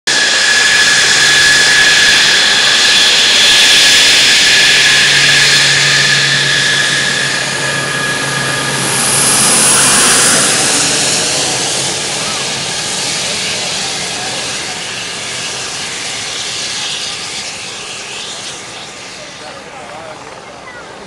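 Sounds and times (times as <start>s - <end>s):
jet engine roar with whine: 0.1s - 21.0s.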